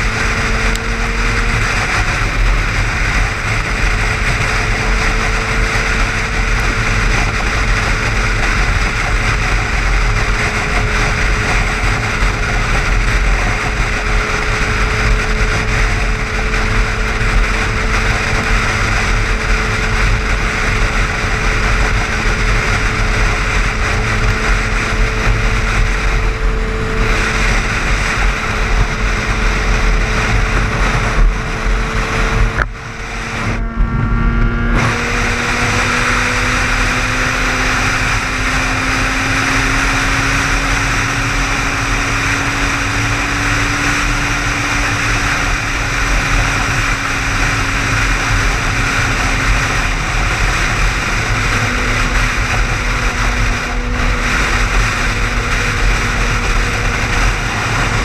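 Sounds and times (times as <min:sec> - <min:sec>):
car engine drone: 0:00.0 - 0:58.0
road and wind noise: 0:00.0 - 0:58.0.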